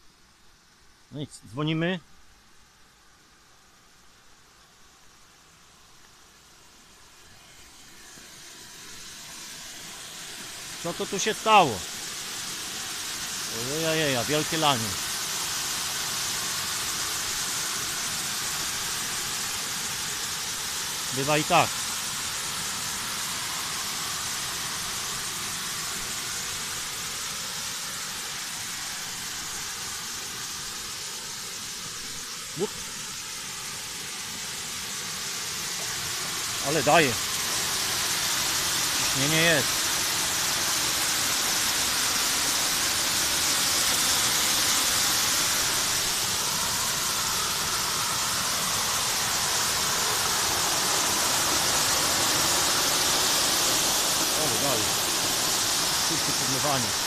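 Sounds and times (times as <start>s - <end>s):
water spraying from rain gun: 6.7s - 57.0s.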